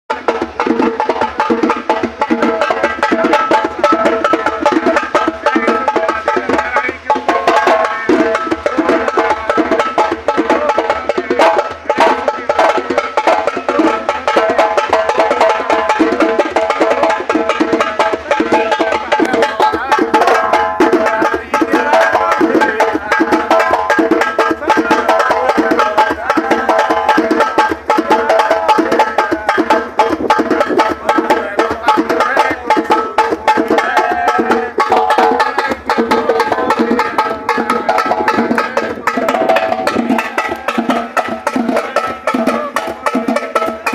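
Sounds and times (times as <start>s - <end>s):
fast drum strokes: 0.1s - 43.9s.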